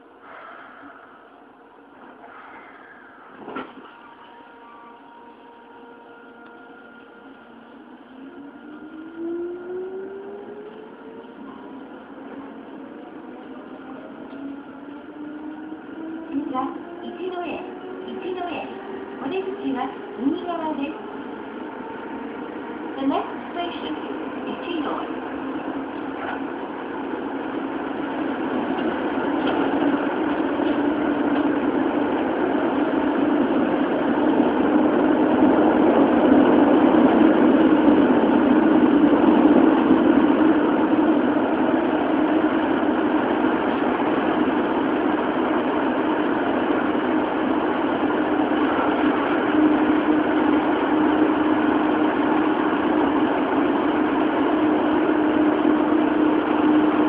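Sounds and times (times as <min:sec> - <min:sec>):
subway train running in tunnel: 0:00.0 - 0:57.0
wheel and track rumble: 0:03.3 - 0:57.0.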